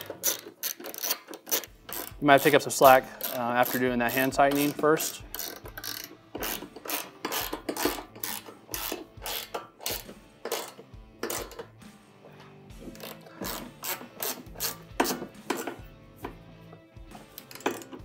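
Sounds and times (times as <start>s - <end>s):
socket ratchet clicking: 0.0s - 18.0s.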